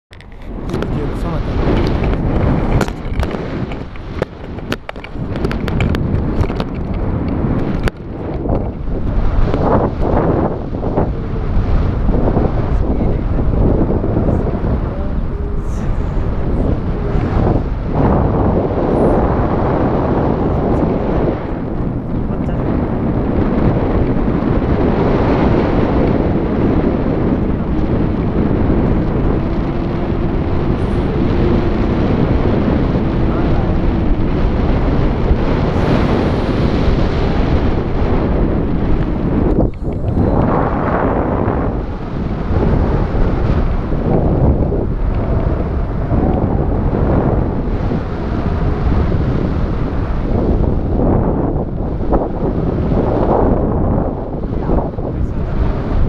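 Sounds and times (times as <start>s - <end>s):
wind buffeting microphone: 0.1s - 56.0s.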